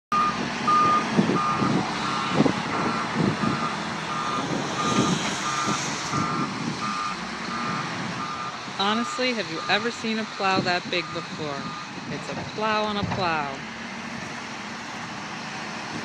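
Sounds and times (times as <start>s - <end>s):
reversing alarm beeping: 0.1s - 13.5s
diesel engine running: 0.1s - 16.0s.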